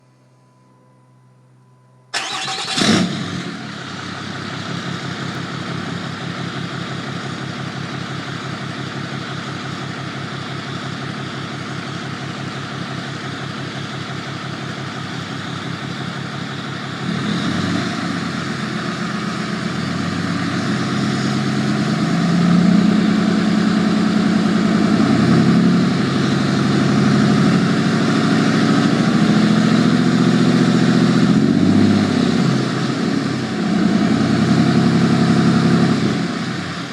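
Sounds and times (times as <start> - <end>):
diesel engine idling: 2.1 - 36.9.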